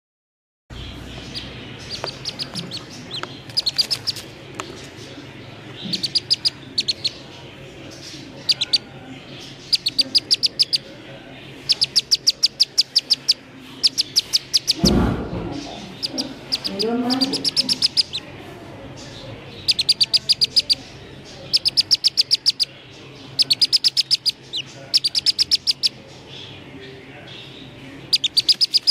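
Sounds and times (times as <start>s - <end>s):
duck chick peeping: 0.8s - 28.9s.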